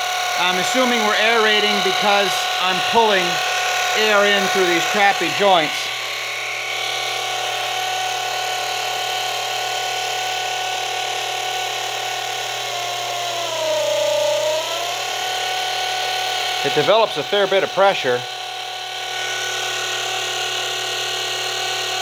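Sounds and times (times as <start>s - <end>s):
electric oil pump whining: 0.0s - 22.0s.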